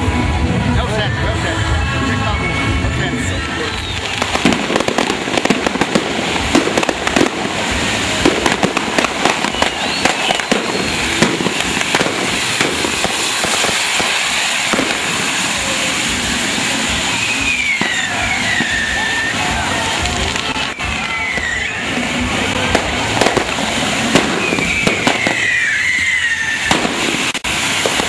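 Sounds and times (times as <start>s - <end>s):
fireworks fizzing hiss: 0.0s - 28.0s
fireworks popping and cracking: 2.9s - 28.0s
falling firework whistle: 3.6s - 28.0s.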